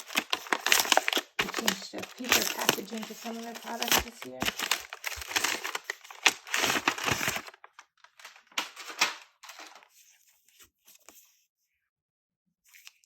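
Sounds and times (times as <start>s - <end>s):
paper packaging rustling: 0.0s - 11.2s.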